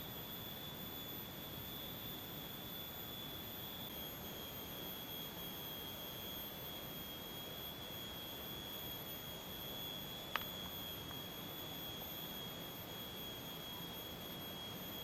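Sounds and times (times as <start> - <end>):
insect high-pitched drone: 0.0 - 15.0.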